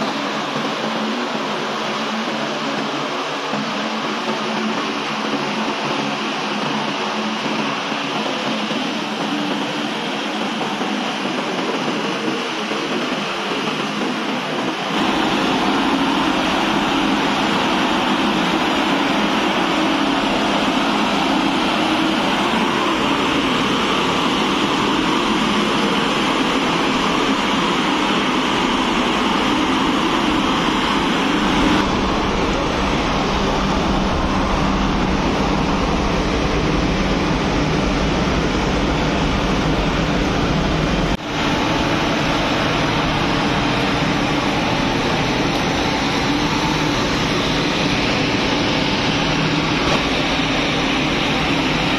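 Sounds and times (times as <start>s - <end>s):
steam rushing and bubbling in liquid: 4.3s - 51.9s.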